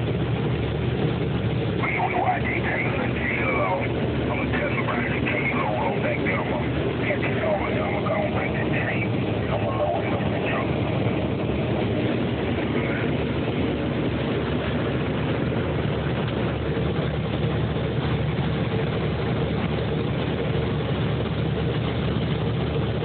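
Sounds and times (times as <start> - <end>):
combine harvester diesel drone: 0.0 - 23.0.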